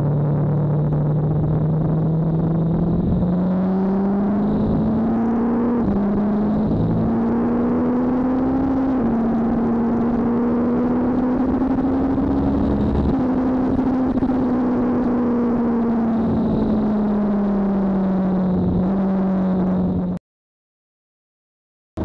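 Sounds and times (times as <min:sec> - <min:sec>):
motorcycle engine revving at speed: 0:00.0 - 0:20.2.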